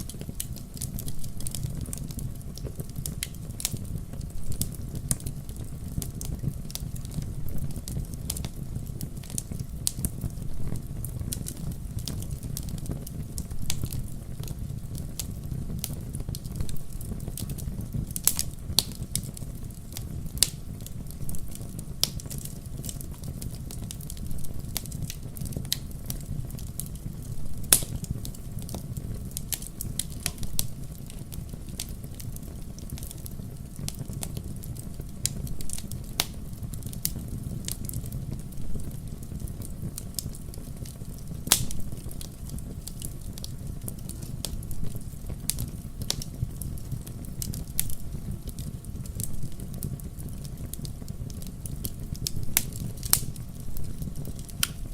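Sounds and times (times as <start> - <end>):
fire crackling in a fireplace: 0.0 - 54.9.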